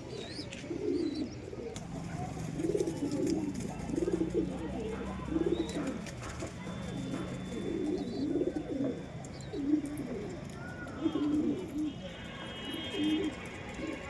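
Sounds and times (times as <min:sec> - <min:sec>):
pigeons cooing: 0:00.0 - 0:12.2, 0:12.8 - 0:14.0.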